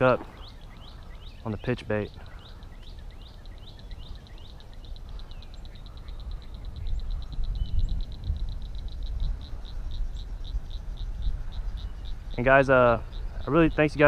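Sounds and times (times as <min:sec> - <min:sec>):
frog clicking chirps and trill: 0:00.0 - 0:14.0.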